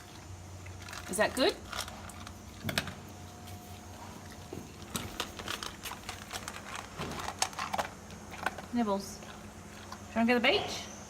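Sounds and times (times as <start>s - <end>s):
dog crunching dry biscuits: 0.0s - 10.1s.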